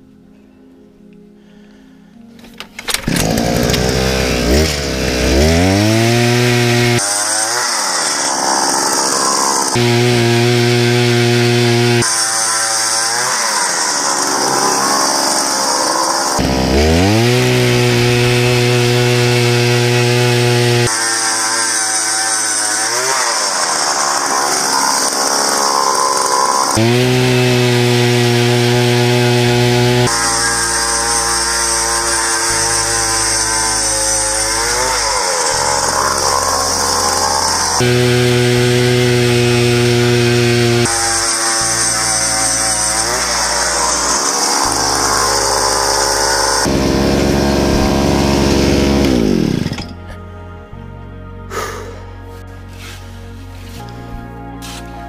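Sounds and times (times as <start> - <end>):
ice auger engine revving: 2.8 - 50.0.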